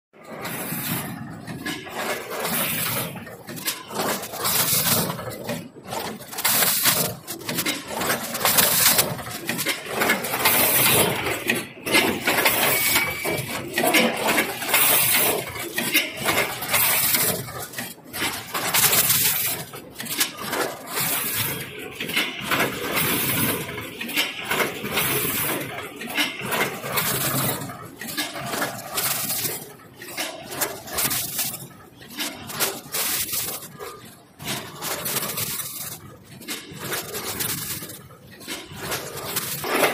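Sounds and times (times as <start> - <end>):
packing machine clattering: 0.3 - 39.9.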